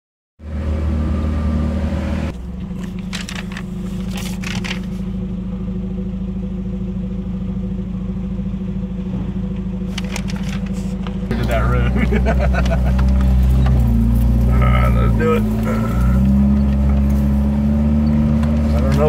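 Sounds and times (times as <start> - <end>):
engine idling: 2.3 - 19.0.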